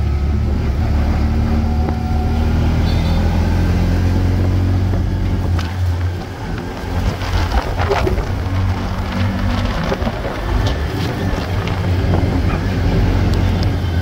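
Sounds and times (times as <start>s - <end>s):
road noise: 0.0s - 14.0s
car engine running: 1.8s - 14.0s.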